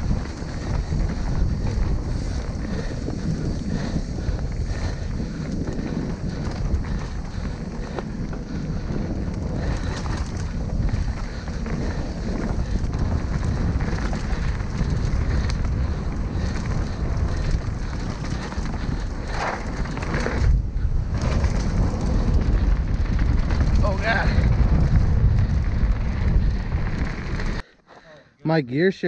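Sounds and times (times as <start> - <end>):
wind buffeting microphone: 0.0 - 27.7
bike rolling on dirt trail: 0.0 - 28.0.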